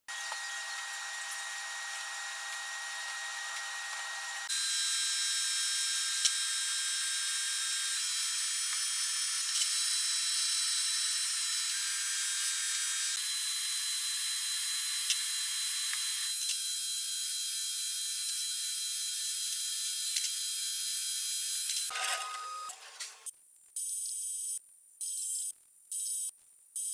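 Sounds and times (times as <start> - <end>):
shop machinery whine: 0.1 - 23.3.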